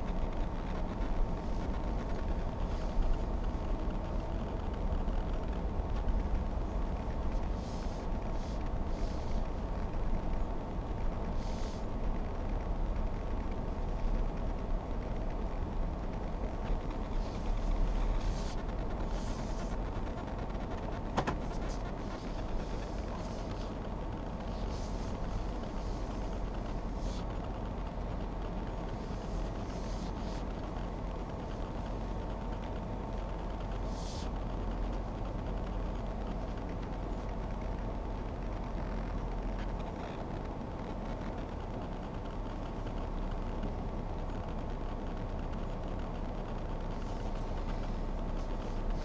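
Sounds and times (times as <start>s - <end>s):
car engine idling: 0.0s - 49.0s
faint constant whine: 0.0s - 49.0s.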